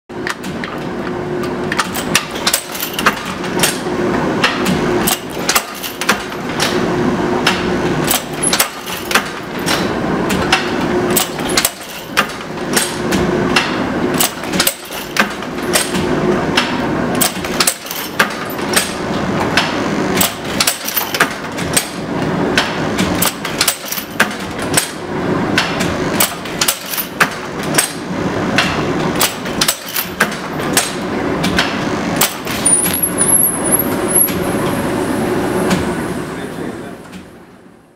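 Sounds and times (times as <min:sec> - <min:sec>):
welding machine clatter and hum: 0:00.1 - 0:35.0.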